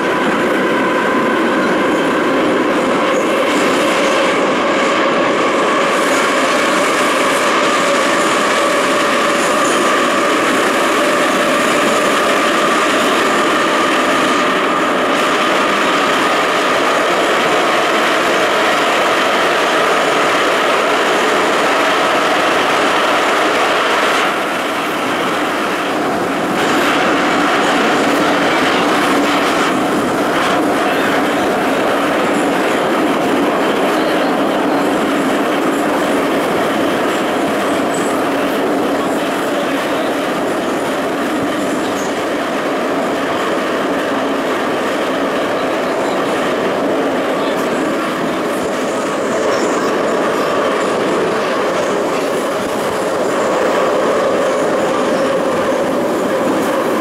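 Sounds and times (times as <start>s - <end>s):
metro train running through tunnel: 0.0s - 57.0s
train whine: 0.0s - 57.0s.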